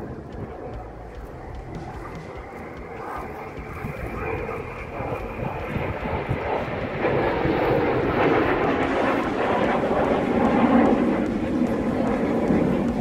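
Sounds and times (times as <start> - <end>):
jet aircraft flying over: 0.0 - 13.0.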